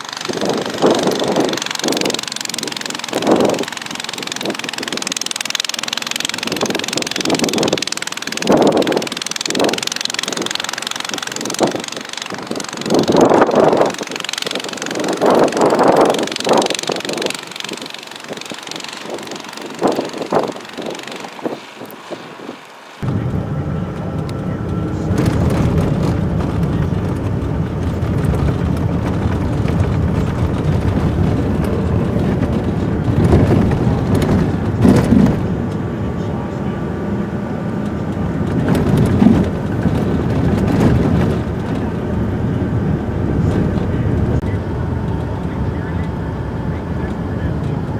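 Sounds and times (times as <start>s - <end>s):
snowblower engine running: 0.0s - 47.9s
wind buffeting microphone: 0.0s - 47.9s.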